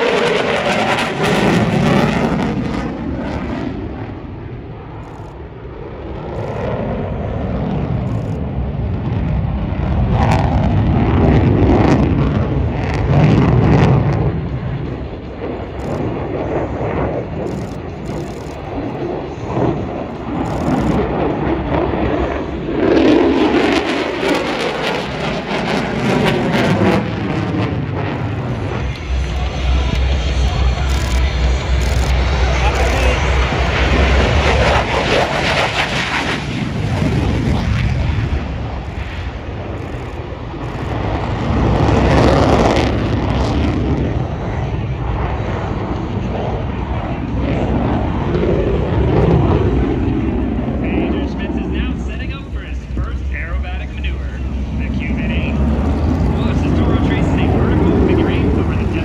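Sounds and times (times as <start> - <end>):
fighter jet roaring overhead: 0.0 - 59.0.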